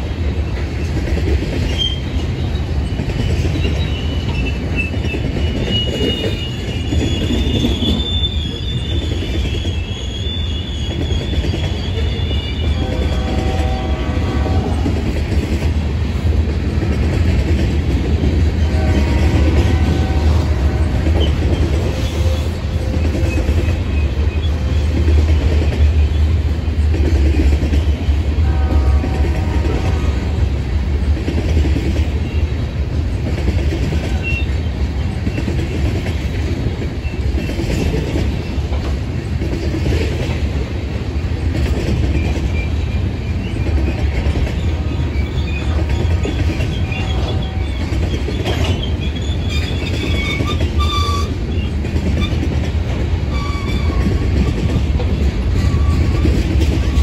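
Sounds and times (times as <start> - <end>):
train wheel squeal: 0.0 - 15.1, 18.6 - 30.3, 31.6 - 40.4, 41.7 - 57.0
train rumbling past: 0.0 - 57.0.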